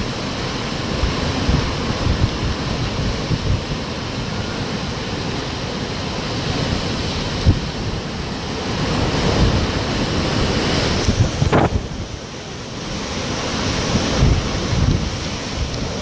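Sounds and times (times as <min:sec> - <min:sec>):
hurricane wind rushing: 0:00.0 - 0:16.0
wind buffeting microphone: 0:00.0 - 0:16.0.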